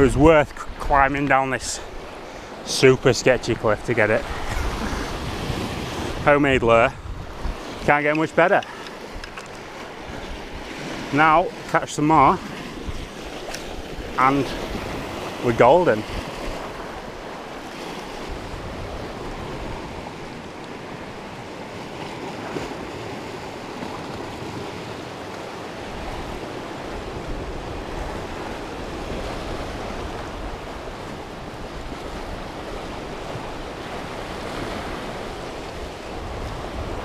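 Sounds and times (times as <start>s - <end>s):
waves breaking against rocks: 0.0s - 37.0s
wind buffeting microphone: 0.0s - 37.0s.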